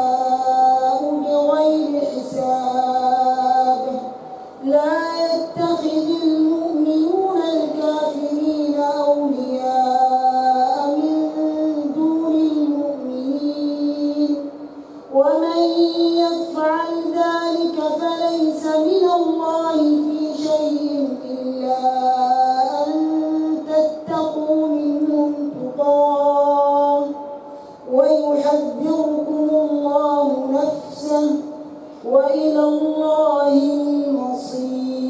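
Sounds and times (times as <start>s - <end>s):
man chanting through microphone: 0.0s - 35.0s.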